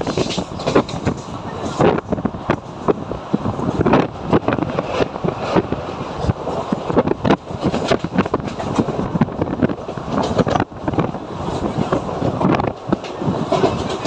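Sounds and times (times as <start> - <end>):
train carriage rattling: 0.0 - 14.0.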